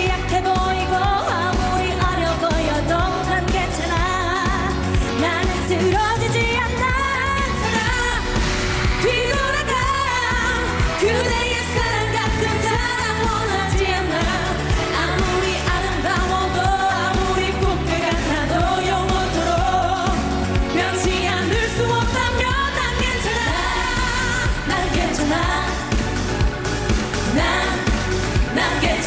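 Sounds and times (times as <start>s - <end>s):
woman singing with vibrato: 0.0s - 26.2s, 27.3s - 29.0s
upbeat pop backing track: 0.0s - 29.0s.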